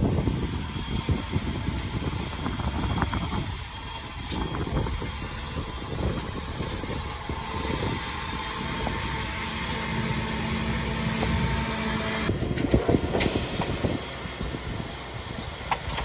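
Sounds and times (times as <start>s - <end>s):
baler working noise: 0.0s - 16.0s
tractor engine running: 0.0s - 16.0s.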